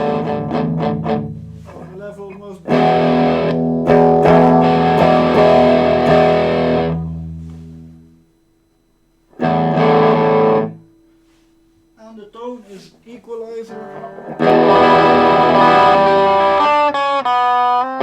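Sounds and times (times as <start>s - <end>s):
overdriven electric guitar chords: 0.0s - 8.5s, 9.1s - 11.9s, 13.7s - 18.0s.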